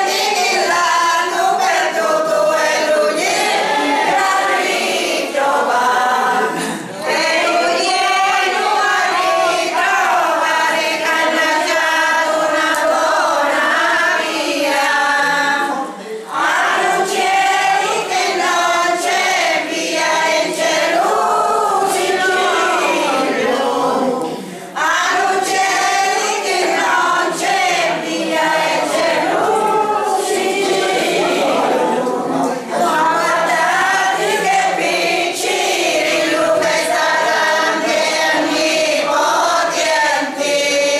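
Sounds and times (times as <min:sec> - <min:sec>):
group singing unaccompanied: 0:00.0 - 0:40.9.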